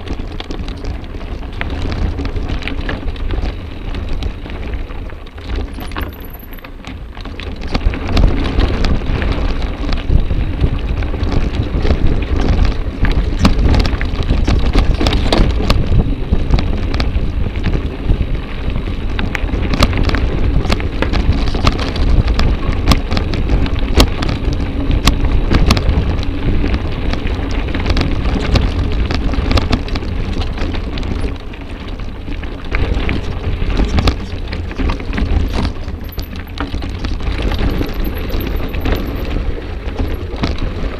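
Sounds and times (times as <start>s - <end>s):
bike chain and frame rattling: 0.0s - 40.9s
bike tyres crunching on dirt: 0.0s - 40.9s.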